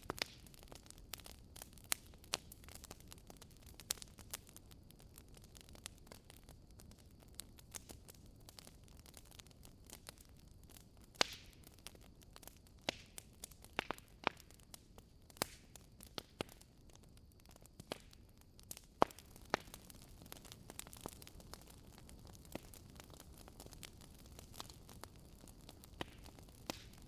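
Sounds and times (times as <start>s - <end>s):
logs crackling in fireplace: 0.0s - 27.0s.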